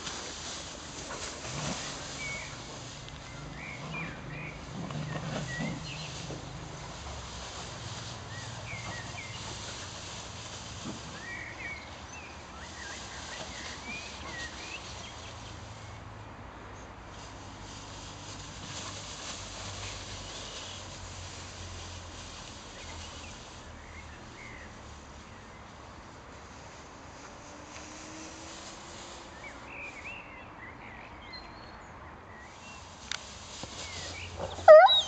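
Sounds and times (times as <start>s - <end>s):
outdoor hiss and low rumble: 0.0s - 35.0s.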